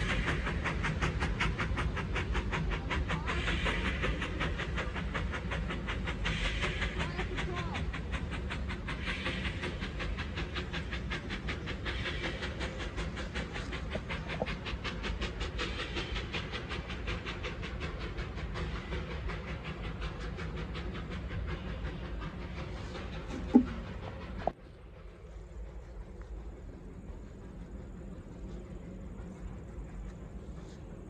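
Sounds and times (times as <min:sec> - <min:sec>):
low train rumble: 0:00.0 - 0:31.0
steam locomotive exhaust beating: 0:00.0 - 0:31.0.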